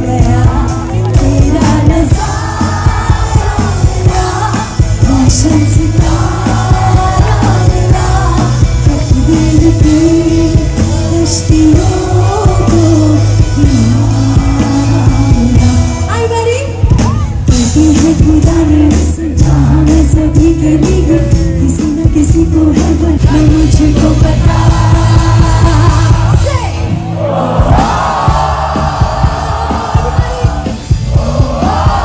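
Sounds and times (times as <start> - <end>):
woman singing: 0.0 - 27.9
heavy bass: 0.0 - 32.0
live band music over a pa: 0.0 - 32.0.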